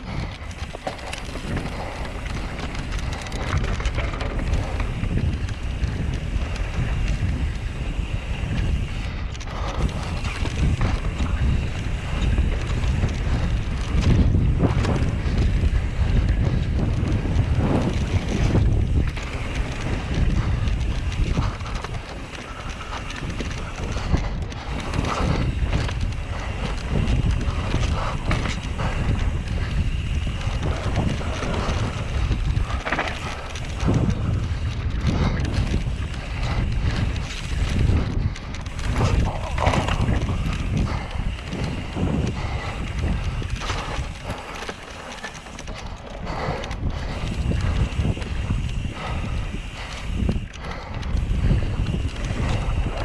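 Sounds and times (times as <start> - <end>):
bike knocks and rattles: 0.0 - 53.0
tyres rolling on dirt: 0.0 - 53.0
wind buffeting microphone: 0.0 - 53.0.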